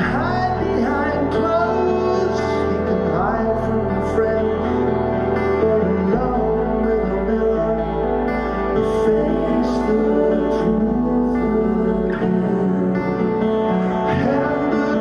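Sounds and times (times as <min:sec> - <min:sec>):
acoustic guitar strumming: 0:00.0 - 0:15.0
electric bass: 0:00.0 - 0:15.0
keyboards: 0:00.0 - 0:15.0.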